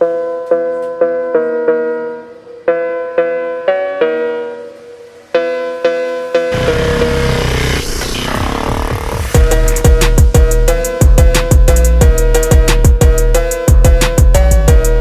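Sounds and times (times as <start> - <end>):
piano-like keyboard melody: 0.0 - 8.2, 9.4 - 15.0.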